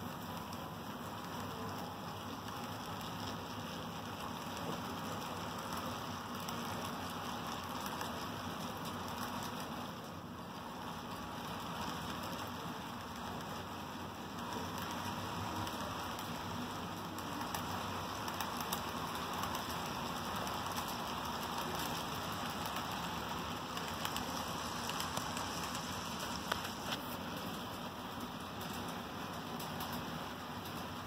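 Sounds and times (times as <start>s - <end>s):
model train rolling on track: 0.0s - 31.0s.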